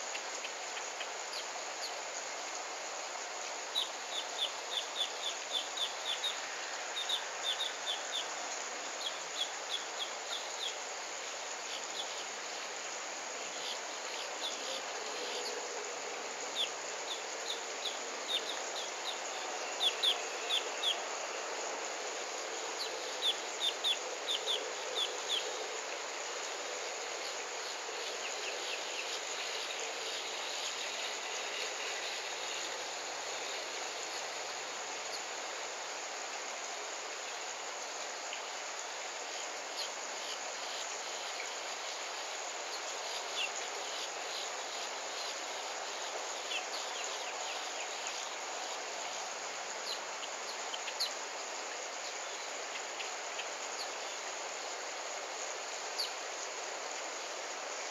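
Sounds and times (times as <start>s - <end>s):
steady outdoor hiss: 0.0s - 57.9s.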